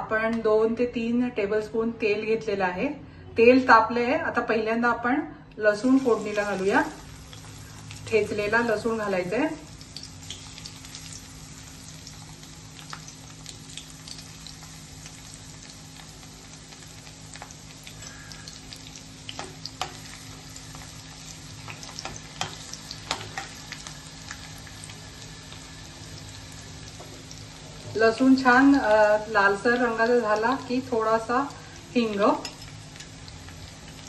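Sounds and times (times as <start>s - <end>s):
garlic sizzling in hot oil: 5.8s - 34.0s.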